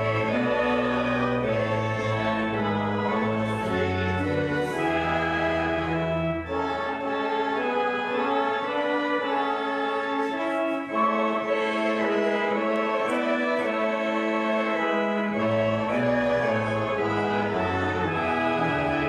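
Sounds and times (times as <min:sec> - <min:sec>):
organ pedal bass line: 0:00.0 - 0:12.8, 0:14.8 - 0:19.0
church organ chords: 0:00.0 - 0:19.0.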